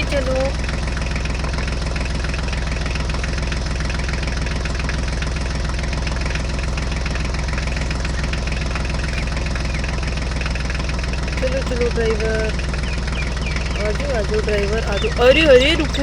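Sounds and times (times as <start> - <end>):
diesel tractor engine chugging: 0.0 - 16.0.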